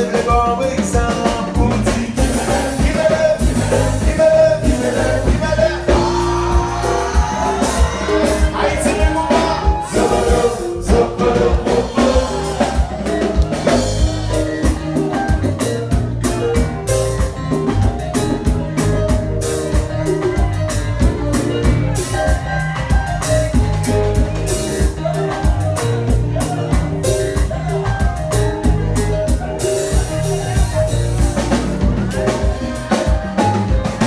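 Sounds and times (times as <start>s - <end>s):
live band playing dance beat: 0.0s - 34.0s.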